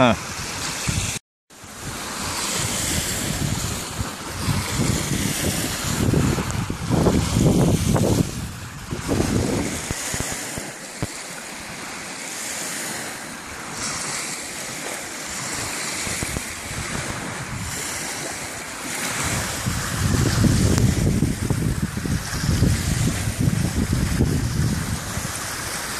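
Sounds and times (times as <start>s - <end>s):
small waves washing on sand: 0.0s - 25.9s
wind gusts on microphone: 0.0s - 25.9s.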